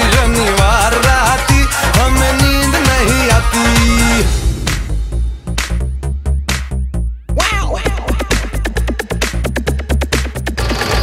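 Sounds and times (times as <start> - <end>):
dance music with heavy bass: 0.0 - 11.0.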